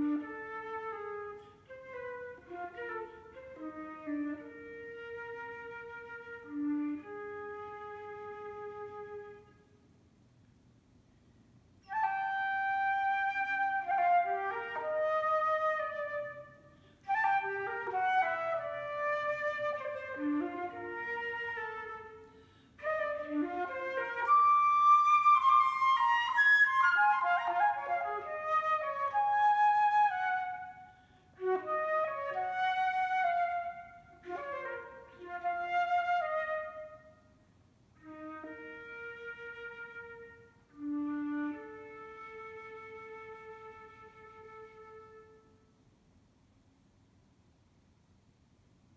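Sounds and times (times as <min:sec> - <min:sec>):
solo flute melody: 0:00.0 - 0:09.8, 0:11.8 - 0:45.8.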